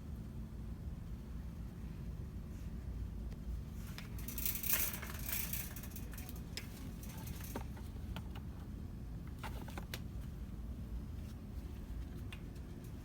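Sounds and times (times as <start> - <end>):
store hum: 0.0 - 13.0
merchandise rustling and crinkling: 2.5 - 13.0.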